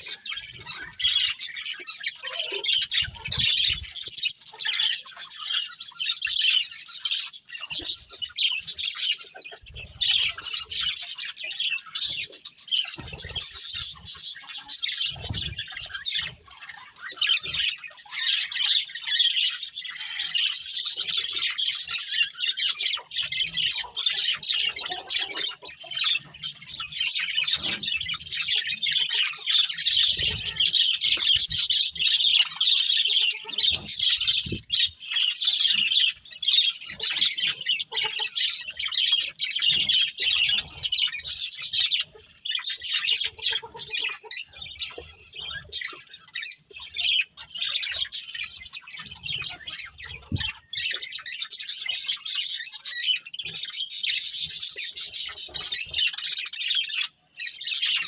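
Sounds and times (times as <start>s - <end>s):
budgerigars chirping and chattering: 0.0s - 58.0s.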